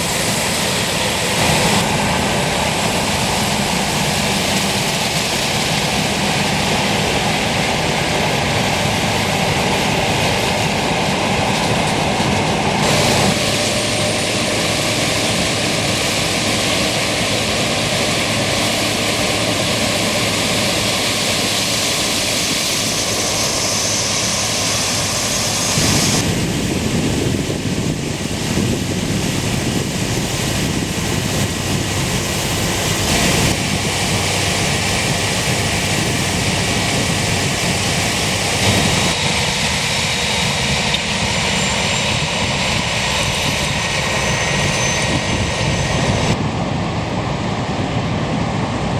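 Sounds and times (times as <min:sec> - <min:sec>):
combine harvester working: 0:00.0 - 0:48.9.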